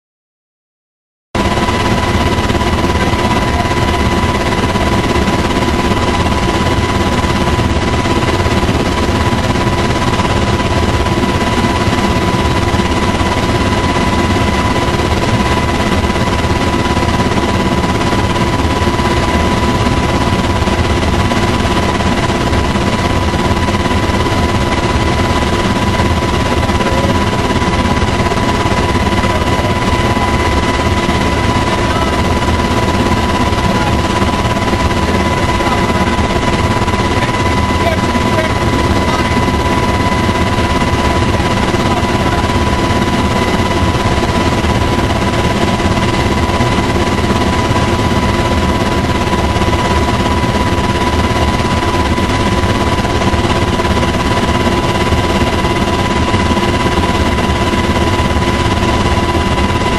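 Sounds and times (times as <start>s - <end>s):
constant high-pitched tone: 1.4s - 59.9s
helicopter rotor and engine noise: 1.4s - 59.9s.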